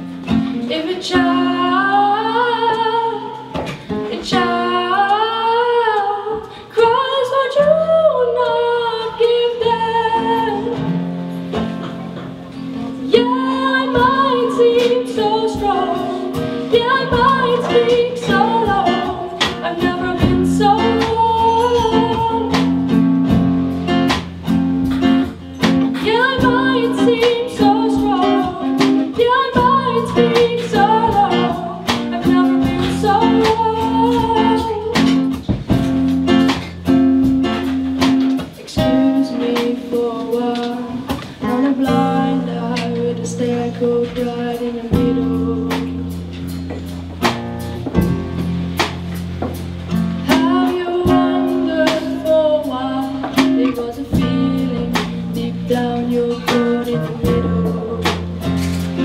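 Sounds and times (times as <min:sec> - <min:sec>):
woman singing slow song: 0:00.0 - 0:47.4, 0:49.9 - 0:59.0
classical guitar: 0:00.0 - 0:59.0.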